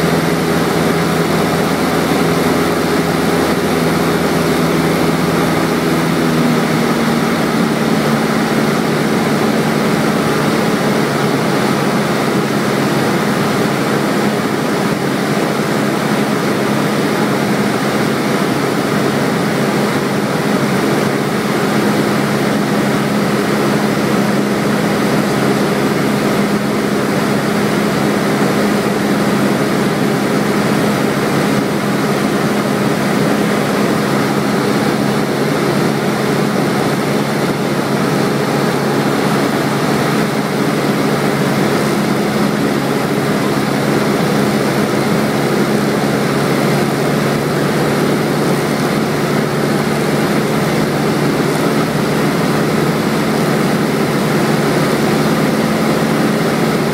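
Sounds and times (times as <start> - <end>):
aircraft engine and propeller droning: 0.0 - 56.9.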